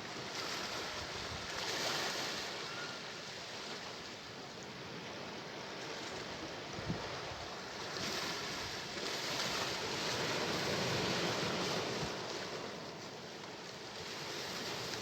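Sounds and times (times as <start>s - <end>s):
sea waves washing ashore: 0.0s - 15.0s.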